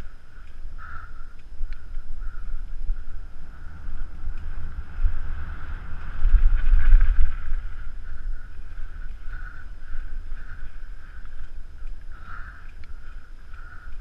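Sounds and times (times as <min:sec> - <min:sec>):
bike rumbling and rattling: 0:00.0 - 0:14.0
wind buffeting microphone: 0:00.0 - 0:14.0.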